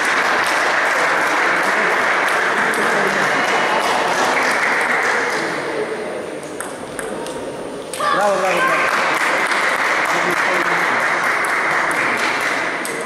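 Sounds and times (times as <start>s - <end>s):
hall noise and voices: 0.0s - 13.0s.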